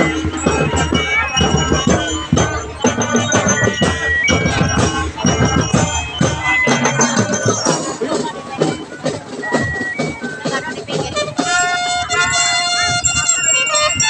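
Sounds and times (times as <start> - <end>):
drums and percussion: 0.0 - 14.0
marching band brass: 0.0 - 14.0.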